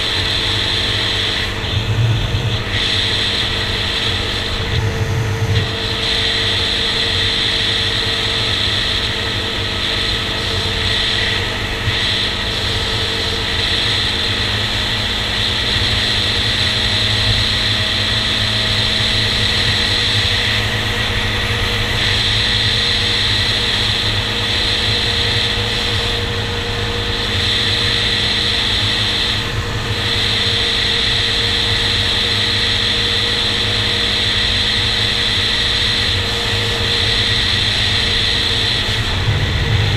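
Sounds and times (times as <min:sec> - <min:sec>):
quad engine cruising: 0:00.0 - 0:39.9.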